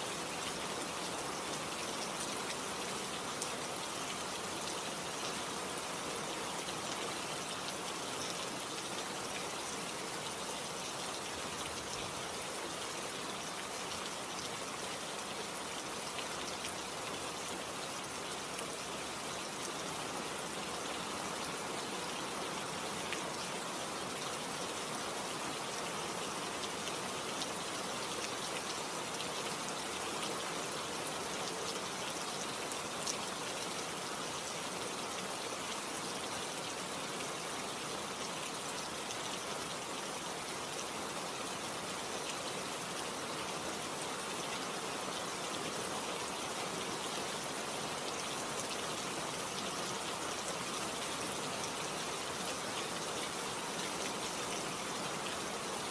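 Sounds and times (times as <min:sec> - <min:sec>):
steady rain pattering: 0:00.0 - 0:55.9.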